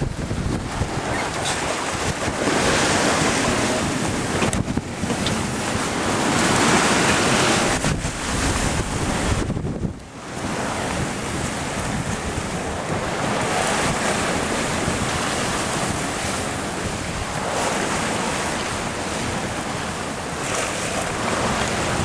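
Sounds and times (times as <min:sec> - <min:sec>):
water splashing along boat hull: 0:00.0 - 0:22.0
wind buffeting microphone: 0:00.0 - 0:22.0.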